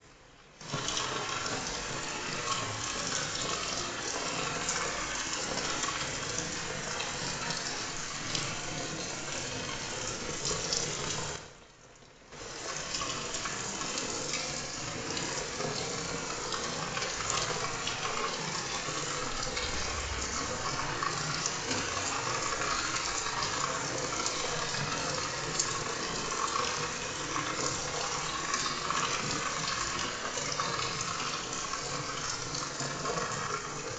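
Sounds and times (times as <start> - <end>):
rain falling: 0.7 - 11.4, 12.4 - 33.9.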